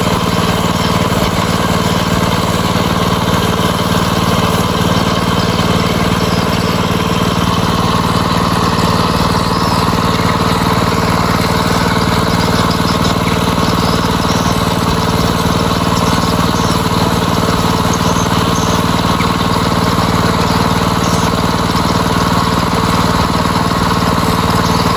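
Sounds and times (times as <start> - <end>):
tractor diesel engine idling: 0.0 - 24.9.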